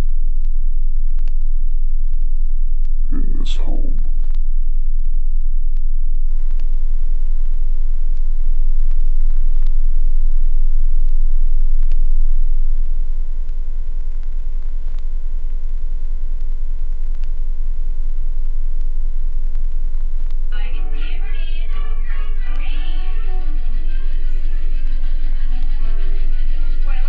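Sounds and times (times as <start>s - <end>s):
buzzing hum: 0.0s - 27.0s
deep rumble drone: 0.0s - 27.0s
faint crackles: 0.0s - 27.0s.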